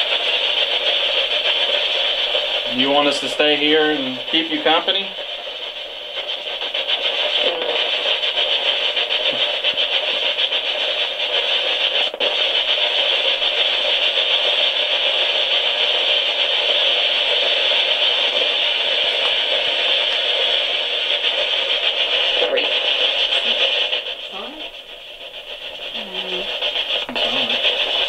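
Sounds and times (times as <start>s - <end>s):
chopped radio static: 0.0s - 28.0s.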